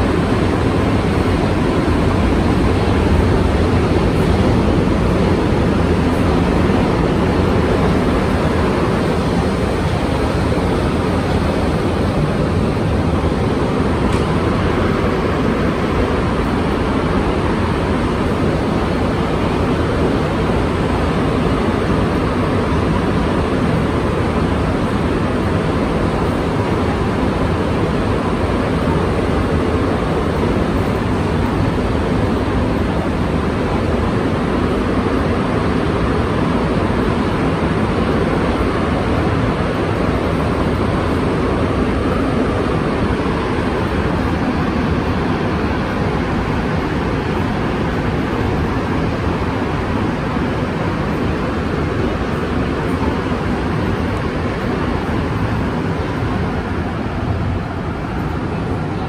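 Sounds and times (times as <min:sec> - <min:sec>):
train running through a tunnel: 0:00.0 - 0:59.0.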